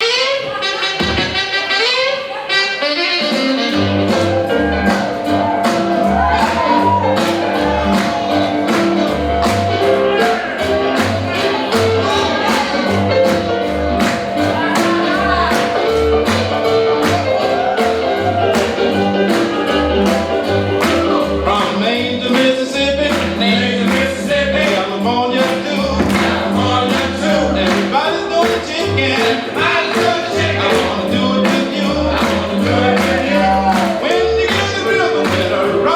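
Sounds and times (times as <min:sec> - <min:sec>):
boogie-woogie rock and roll song: 0:00.0 - 0:35.9
person singing: 0:03.2 - 0:35.9.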